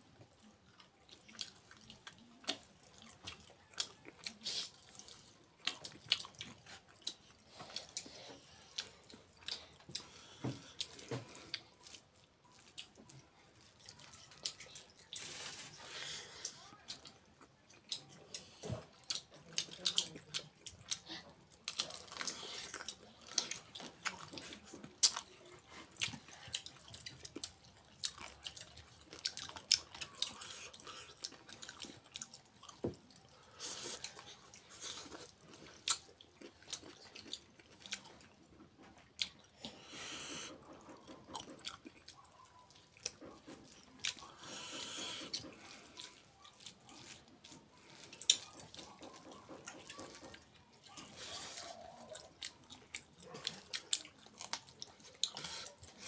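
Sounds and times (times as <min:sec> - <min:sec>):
chewing and wet mouth clicks: 0:00.2 - 0:15.3, 0:16.4 - 0:39.8, 0:40.5 - 0:56.0.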